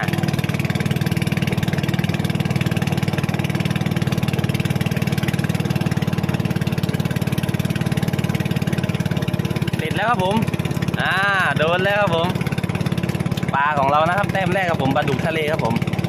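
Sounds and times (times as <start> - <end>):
boat engine pulsing: 0.0 - 16.0.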